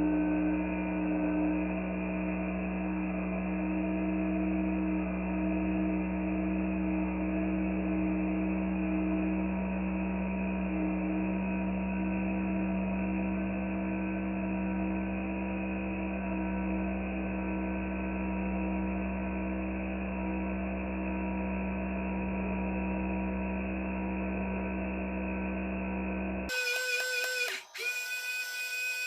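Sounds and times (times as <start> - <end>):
low droning hum: 0.0 - 26.5.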